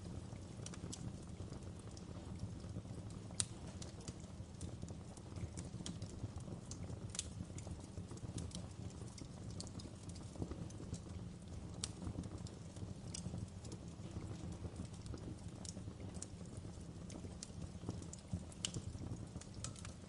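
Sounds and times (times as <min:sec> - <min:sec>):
wood fire crackling: 0:00.0 - 0:20.0
sharp pops and snaps: 0:03.3 - 0:20.0.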